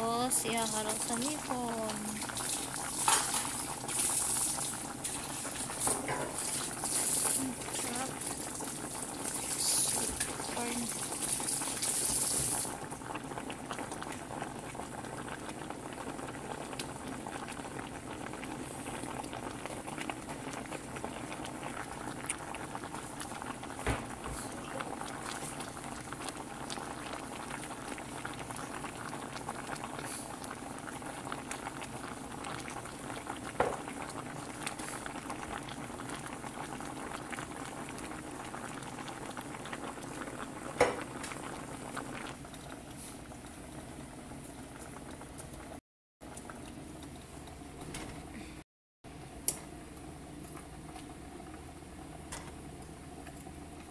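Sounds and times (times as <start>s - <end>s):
water boiling in a pot: 0.0s - 53.9s.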